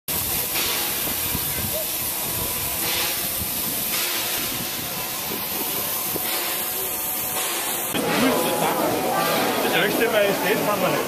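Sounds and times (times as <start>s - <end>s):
steam locomotive hissing steam: 0.1s - 11.0s.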